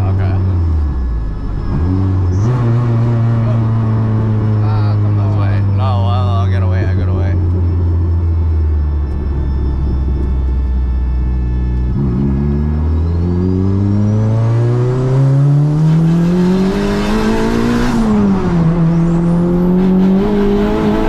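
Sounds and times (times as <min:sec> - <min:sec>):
car engine accelerating: 0:00.0 - 0:21.0
turbo whine: 0:00.0 - 0:21.0.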